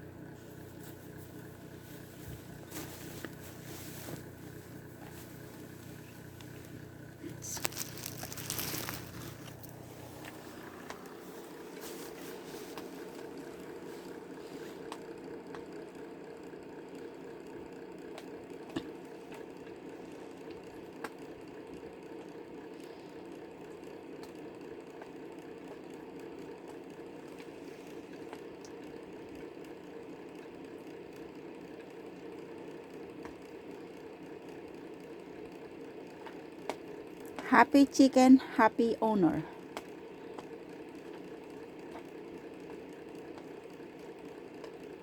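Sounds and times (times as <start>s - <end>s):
mechanical hum: 0.0s - 45.0s.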